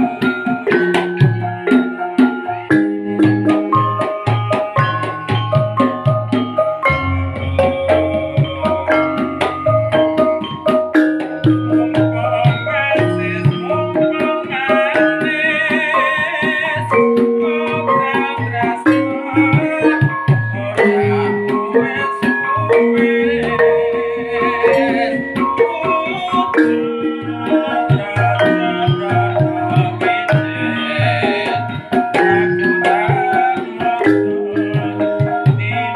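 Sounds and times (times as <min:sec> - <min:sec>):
hand drum pattern: 0:00.0 - 0:35.9
high wavering melody: 0:00.0 - 0:35.9.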